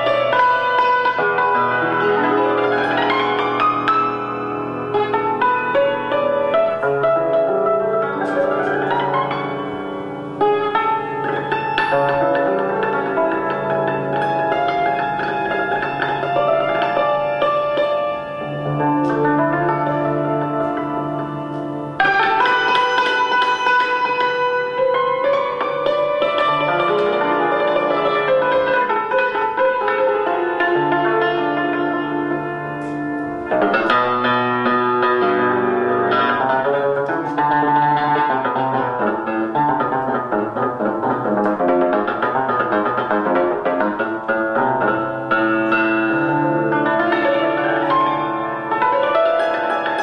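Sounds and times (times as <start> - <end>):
hammered dulcimer notes: 0.0 - 50.0.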